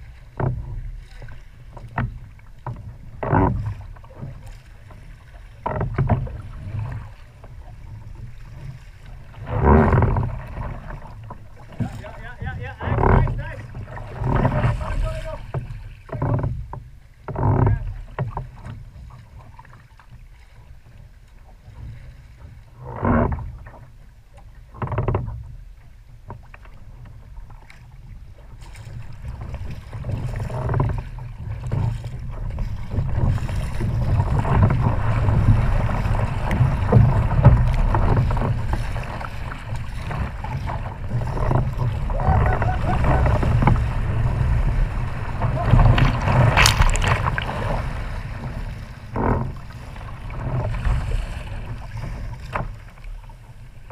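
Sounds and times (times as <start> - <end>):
wind rumble on microphone: 0.0 - 19.6, 26.4 - 53.9
water splashing against hull: 0.0 - 53.9.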